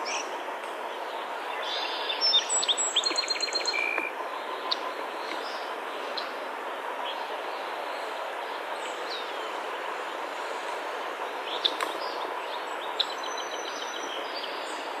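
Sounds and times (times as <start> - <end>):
bird calls: 0.0 - 15.0
outdoor background hiss: 0.0 - 15.0.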